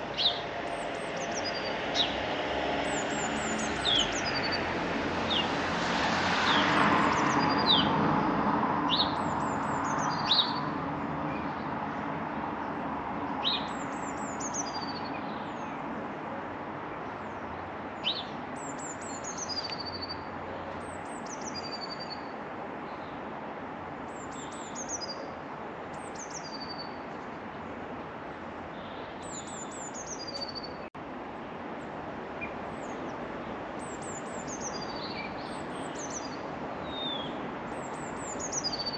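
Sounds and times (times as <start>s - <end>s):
songbirds calling: 0.0s - 16.2s, 16.8s - 23.3s, 24.0s - 30.9s, 31.8s - 38.9s.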